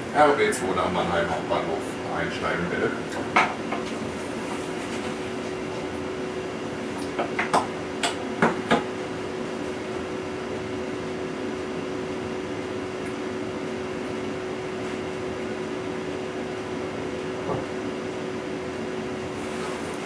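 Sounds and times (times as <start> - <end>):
train electrical hum: 0.0 - 20.0.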